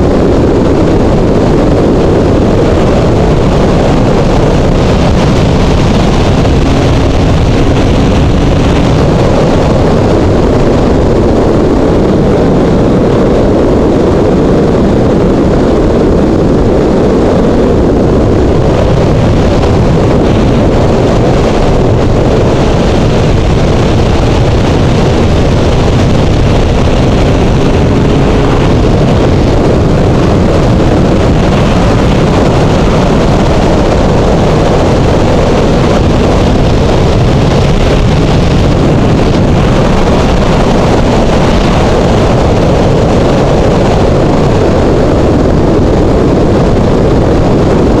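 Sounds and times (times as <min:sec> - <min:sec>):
motorcycle engine running: 0:00.0 - 0:45.3
wind rushing over microphone: 0:00.0 - 0:48.0.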